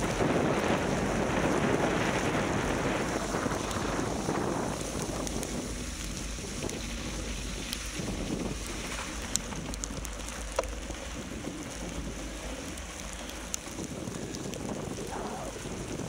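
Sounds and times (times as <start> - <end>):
bicycle tyres rolling on snow: 0.0 - 16.0
wind buffeting microphone: 0.0 - 16.0.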